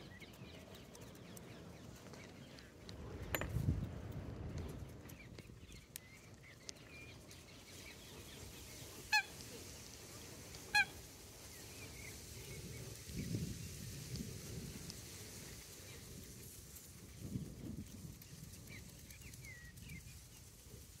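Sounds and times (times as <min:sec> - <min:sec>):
small birds chirping: 0:00.0 - 0:03.5, 0:04.4 - 0:21.0.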